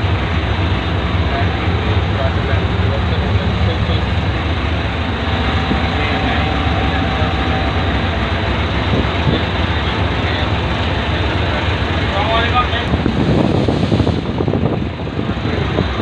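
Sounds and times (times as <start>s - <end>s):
faint steady whine: 0.0s - 13.1s
locomotive engine running: 0.0s - 16.0s.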